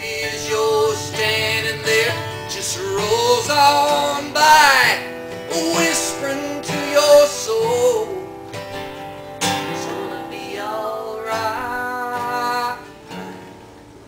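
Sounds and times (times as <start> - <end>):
man singing: 0.0 - 8.5, 9.4 - 13.2
acoustic guitars strummed: 0.0 - 14.0.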